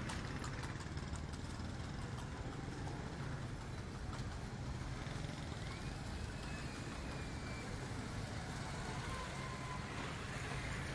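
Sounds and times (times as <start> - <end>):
motorcycle engines rumbling: 0.0 - 10.9.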